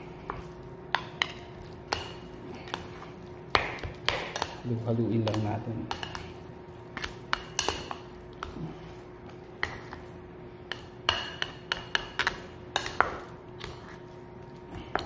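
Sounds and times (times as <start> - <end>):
spoon stirring meat filling in bowl: 0.1 - 15.0.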